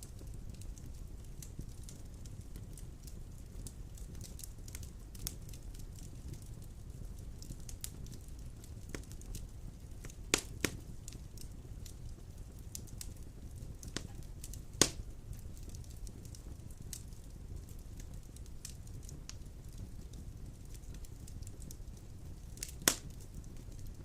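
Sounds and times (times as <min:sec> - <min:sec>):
fire crackles and pops: 0:00.0 - 0:24.0
fire rumbling: 0:00.0 - 0:24.0.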